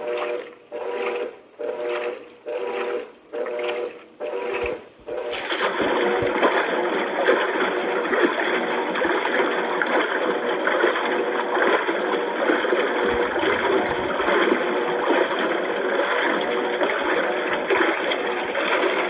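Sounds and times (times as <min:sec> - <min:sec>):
faint motor hum: 0:00.0 - 0:19.0
washing machine sloshing water: 0:00.0 - 0:19.0.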